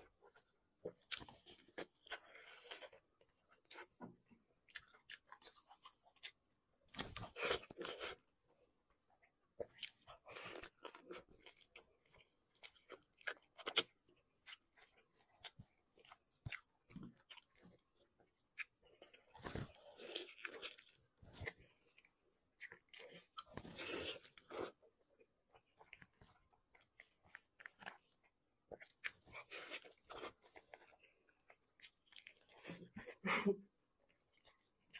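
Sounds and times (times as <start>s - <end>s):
chewing and lip-smacking: 0.3s - 8.3s, 9.0s - 33.2s.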